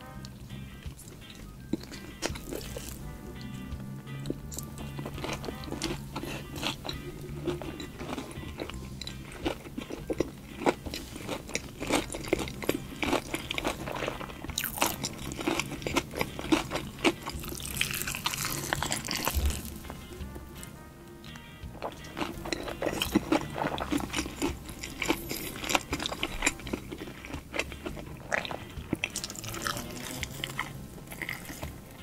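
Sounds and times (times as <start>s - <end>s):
chewing and crunching chicken: 0.0s - 32.0s
wet mouth sounds: 4.2s - 20.2s, 21.8s - 31.8s.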